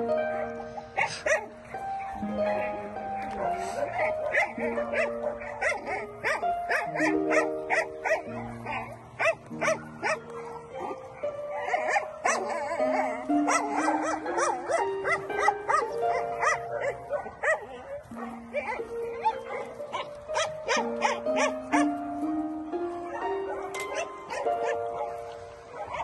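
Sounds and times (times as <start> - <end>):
dogs barking: 0.0 - 26.0
background music with ticking beat: 0.7 - 25.1.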